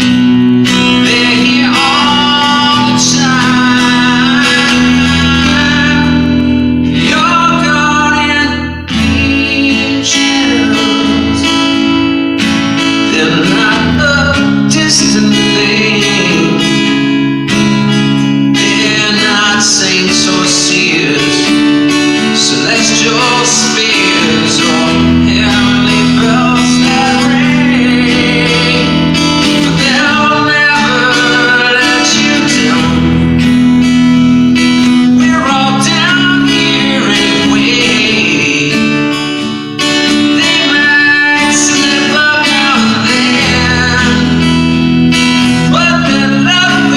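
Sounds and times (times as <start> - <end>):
man singing rock song: 0.0 - 46.9
strummed guitar chords: 0.0 - 46.9.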